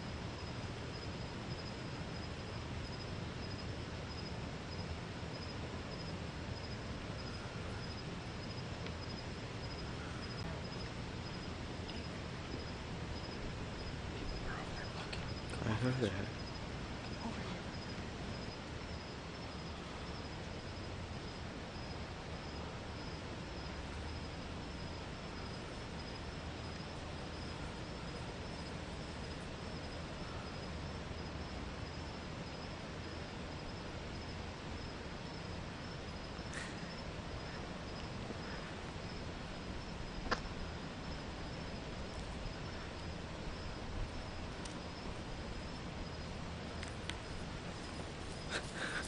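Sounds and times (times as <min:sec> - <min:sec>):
crickets chirping: 0:00.0 - 0:49.0
steady hiss: 0:00.0 - 0:49.0.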